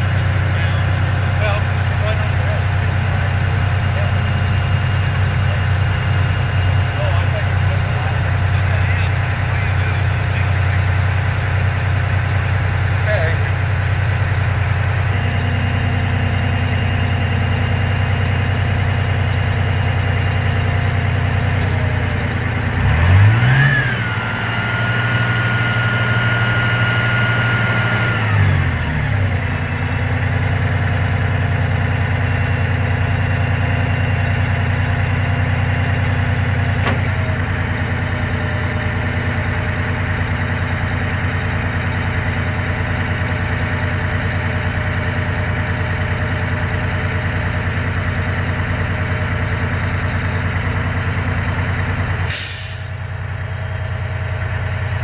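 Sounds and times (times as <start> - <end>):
fire truck engine running: 0.0 - 55.0.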